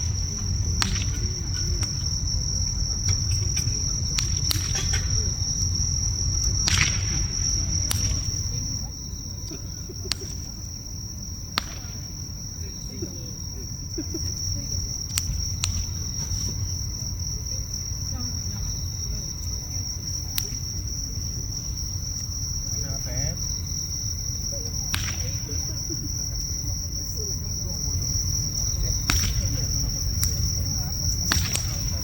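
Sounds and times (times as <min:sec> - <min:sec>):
bonfire crackling and popping: 0:00.0 - 0:32.0
insects trilling: 0:00.0 - 0:32.0.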